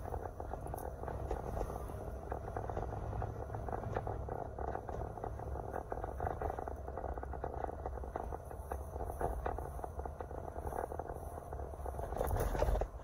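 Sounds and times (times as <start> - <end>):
fast crackly rattle: 0.0 - 13.0
road and engine rumble: 0.0 - 13.0.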